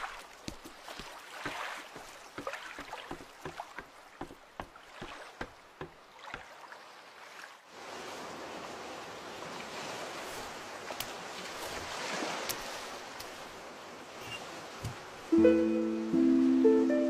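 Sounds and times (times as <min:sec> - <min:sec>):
water sloshing and lapping: 0:00.0 - 0:15.3
waves washing: 0:00.0 - 0:17.0.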